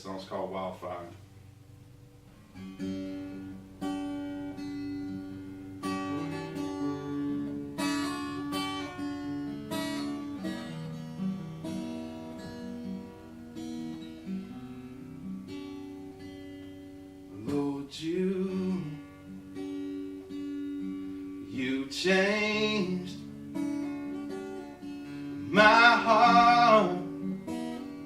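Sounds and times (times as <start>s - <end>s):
acoustic guitar chords: 0.0s - 28.0s.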